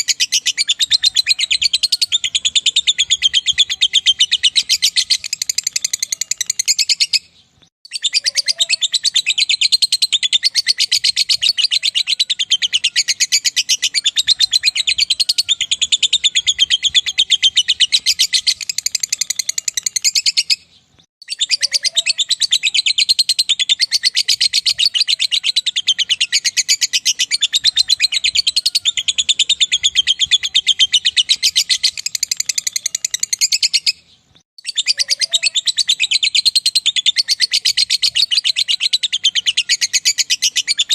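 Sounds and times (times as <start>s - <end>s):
lovebird chattering trill: 0.0s - 7.3s, 7.9s - 40.9s.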